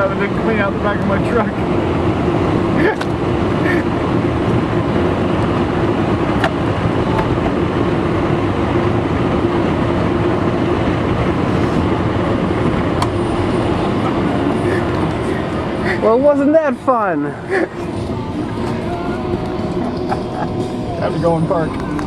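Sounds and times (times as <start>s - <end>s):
car wash mechanical drone: 0.0s - 22.0s.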